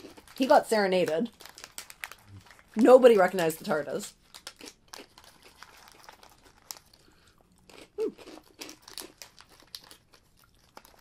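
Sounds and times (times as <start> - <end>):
foil wrappers crinkling: 0.0 - 7.3, 8.5 - 11.0.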